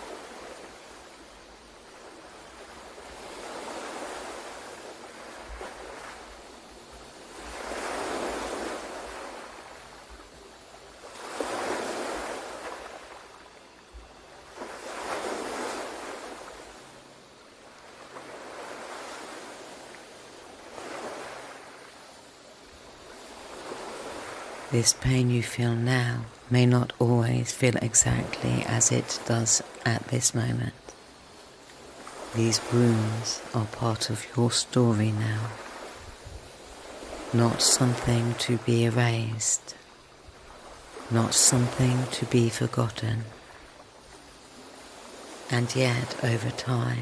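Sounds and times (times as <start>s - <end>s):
ocean waves washing in: 0.0s - 47.0s.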